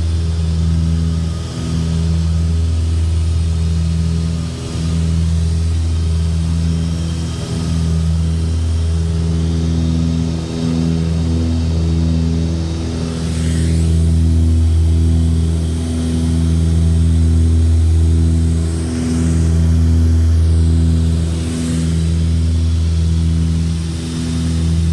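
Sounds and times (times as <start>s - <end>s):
light aircraft engine droning: 0.0s - 24.9s.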